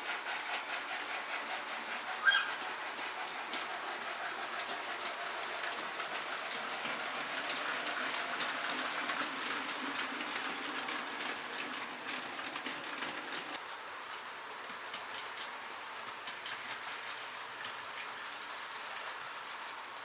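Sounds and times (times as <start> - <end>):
model train wheels clicking: 0.0 - 20.0
rolling noise of track: 0.0 - 20.0.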